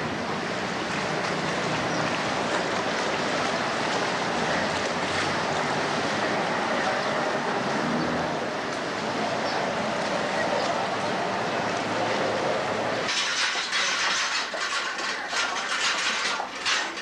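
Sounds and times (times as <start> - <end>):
motorboat running: 0.0 - 17.0
water noise: 0.0 - 17.0.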